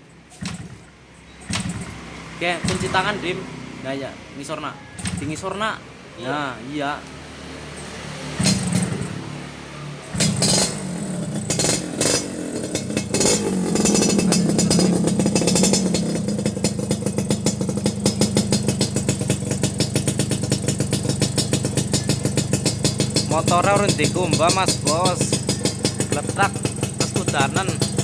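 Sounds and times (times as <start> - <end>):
two-stroke motorcycle engine revving: 0.3 - 3.9, 5.0 - 5.6, 7.2 - 28.0.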